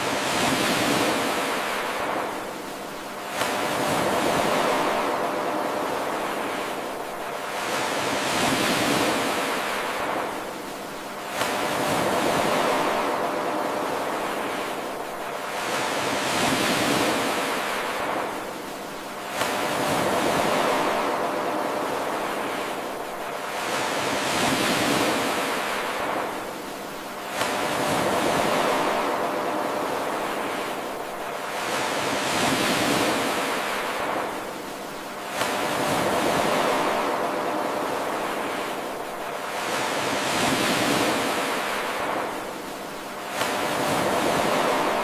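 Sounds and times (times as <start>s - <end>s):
ocean waves washing in: 0.0s - 45.0s.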